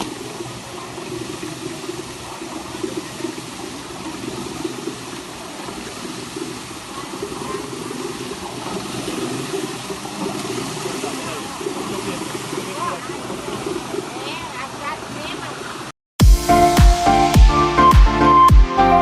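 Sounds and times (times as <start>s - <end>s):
water rushing in rocky stream: 0.0s - 15.9s.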